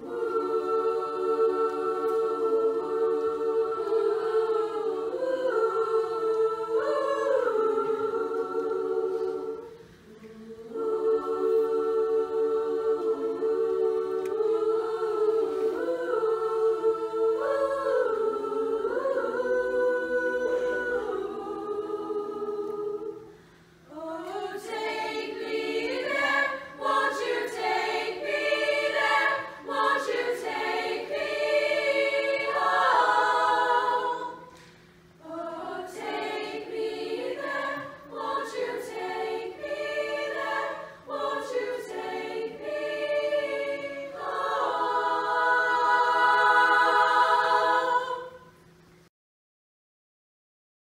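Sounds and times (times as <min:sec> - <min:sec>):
girls' choir singing unaccompanied: 0:00.0 - 0:48.8.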